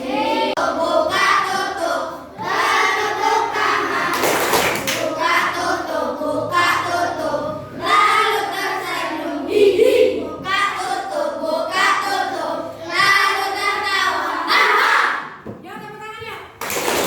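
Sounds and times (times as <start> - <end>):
children singing in unison: 0.0 - 15.4.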